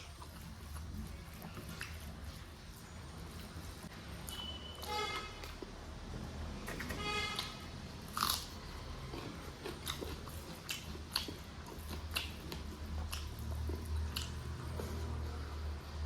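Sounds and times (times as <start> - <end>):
chewing and mouth smacks: 0.0 - 5.8, 6.7 - 15.3.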